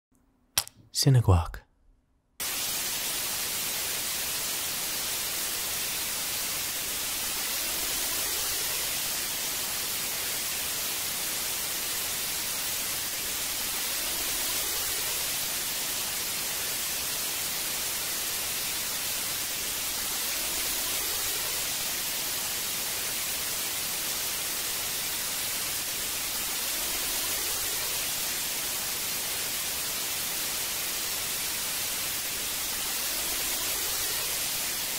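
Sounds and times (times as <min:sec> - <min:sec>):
television static hiss: 0:02.4 - 0:34.9.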